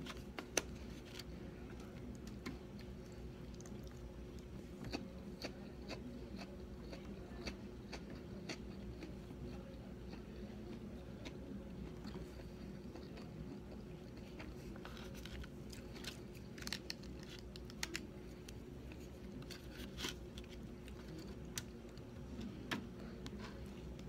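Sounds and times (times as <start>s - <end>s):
steady low hum: 0.0s - 24.0s
chewing and mouth sounds: 2.5s - 22.1s.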